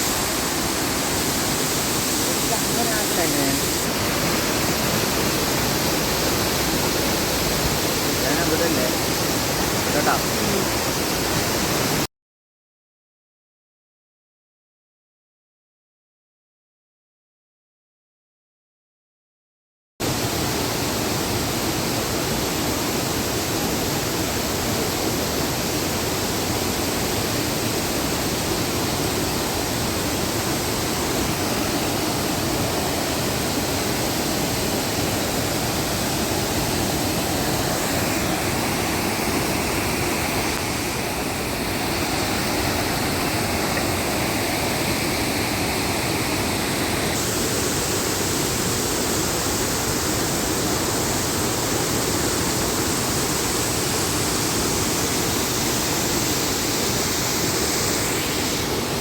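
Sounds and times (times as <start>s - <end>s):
waterfall rushing: 0.0s - 12.1s, 20.0s - 59.0s.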